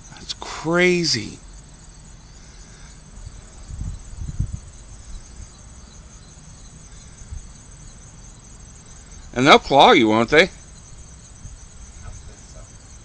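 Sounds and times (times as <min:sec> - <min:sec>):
insects trilling: 0:00.0 - 0:13.0
low rumbles: 0:00.0 - 0:13.0.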